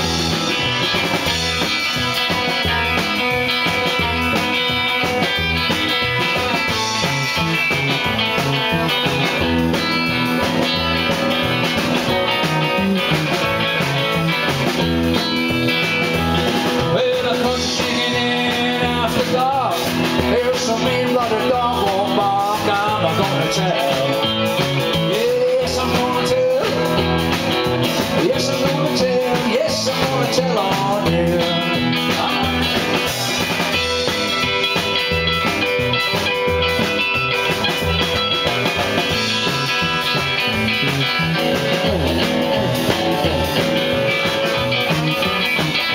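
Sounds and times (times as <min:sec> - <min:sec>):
bending electric guitar line: 0:00.0 - 0:45.9
rock band playing loudly: 0:00.0 - 0:45.9.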